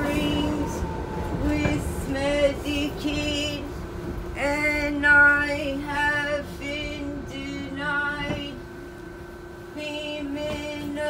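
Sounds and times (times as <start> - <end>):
woman singing unaccompanied: 0.0 - 3.7, 4.4 - 8.6, 9.7 - 11.0
subway car hum: 0.0 - 11.0.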